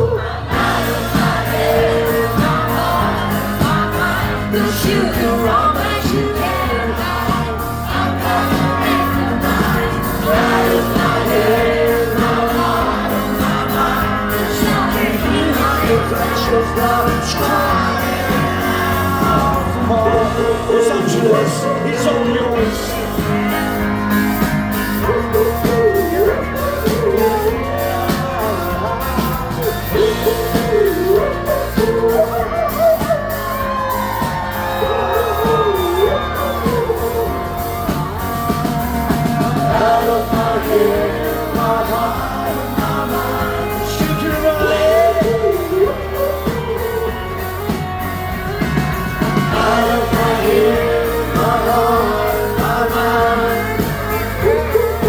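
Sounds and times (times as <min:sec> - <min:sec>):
crowd singing: 0:00.0 - 0:55.0
live rock band playing: 0:00.0 - 0:55.0
people shouting: 0:00.0 - 0:55.0.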